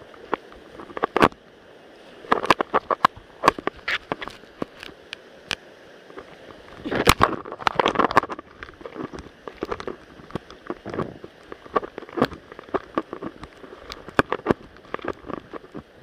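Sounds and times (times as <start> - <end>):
stream water running: 0.0 - 16.0
sharp clicks and knocks: 0.1 - 1.4, 2.3 - 15.9.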